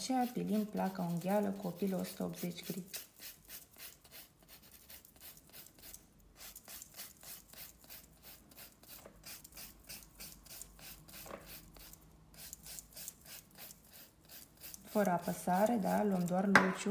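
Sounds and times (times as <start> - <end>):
nail file rubbing fingernail: 0.1 - 16.4.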